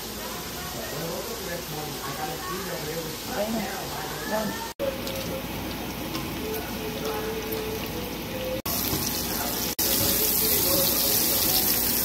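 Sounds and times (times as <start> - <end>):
garlic frying: 0.0 - 12.0
meat sizzling in oil: 0.0 - 12.0.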